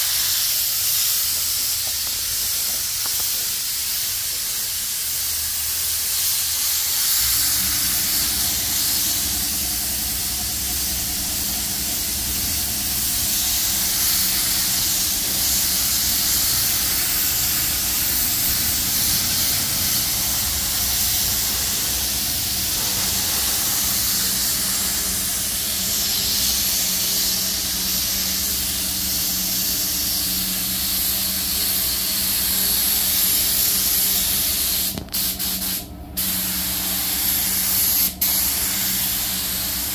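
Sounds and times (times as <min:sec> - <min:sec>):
spray gun hissing: 0:00.0 - 0:39.9
steady low hum: 0:05.8 - 0:39.9.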